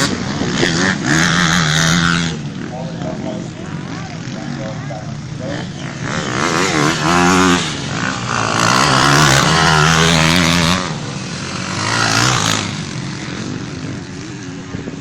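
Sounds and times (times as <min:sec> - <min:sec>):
motocross bikes racing past: 0:00.0 - 0:15.0.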